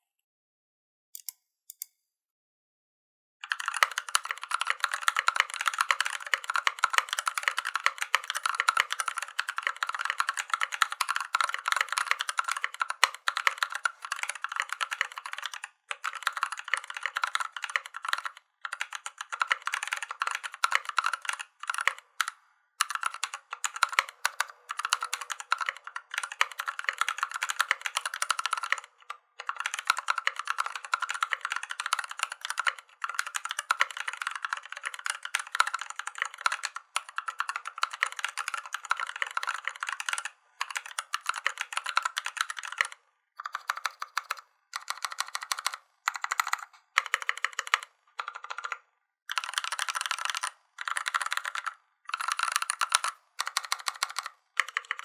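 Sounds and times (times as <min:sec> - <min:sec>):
fast typing on mechanical keyboard: 0:03.4 - 0:55.0.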